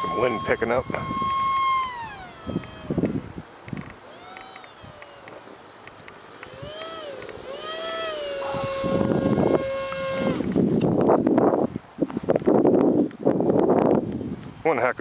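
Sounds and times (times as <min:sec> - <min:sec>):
electric ducted fan whining: 0:00.0 - 0:15.0
wind gusts on microphone: 0:00.0 - 0:15.0.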